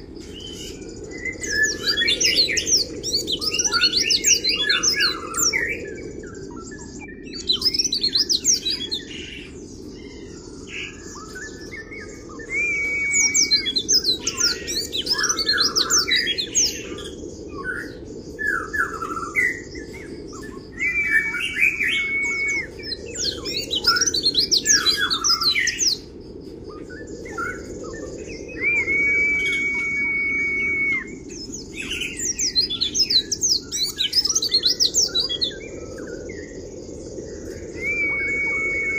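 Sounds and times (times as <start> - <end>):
bird twittering song: 0.0 - 38.9
long level bird whistle: 0.0 - 38.9.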